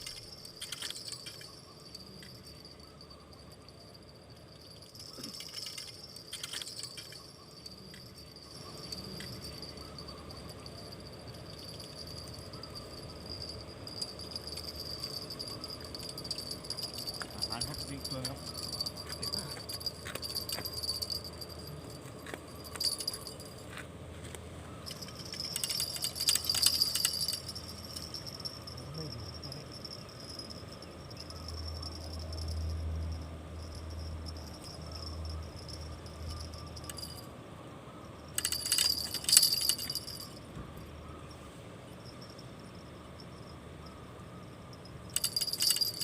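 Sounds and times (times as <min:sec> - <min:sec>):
high insect drone: 0:00.0 - 0:23.8, 0:24.7 - 0:46.0
small bell jingling: 0:00.0 - 0:23.8, 0:24.7 - 0:37.4, 0:38.0 - 0:41.0, 0:41.9 - 0:46.0.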